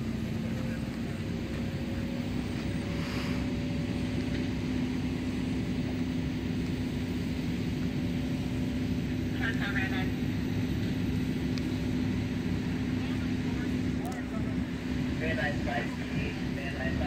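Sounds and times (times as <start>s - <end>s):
fire engine motor droning: 0.0s - 17.0s.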